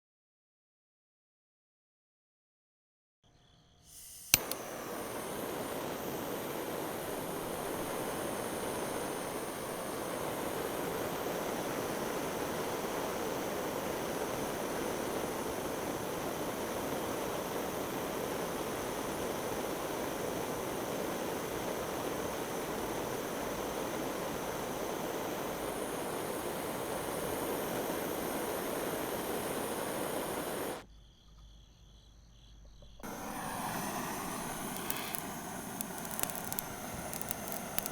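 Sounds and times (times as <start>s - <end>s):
gas torch flame hissing: 3.8s - 30.8s, 33.0s - 37.9s
torch ignition click: 3.9s - 30.8s, 33.0s - 37.9s.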